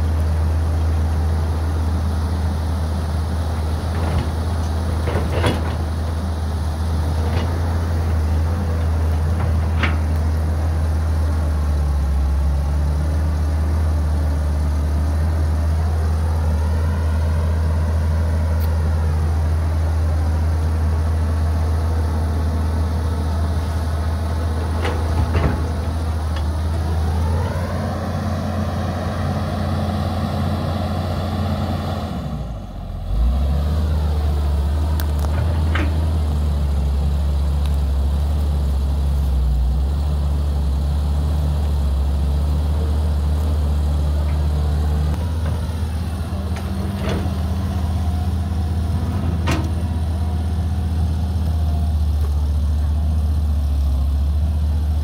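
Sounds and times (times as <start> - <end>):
excavator diesel engine running: 0.0 - 55.0
hydraulic whine: 0.0 - 55.0.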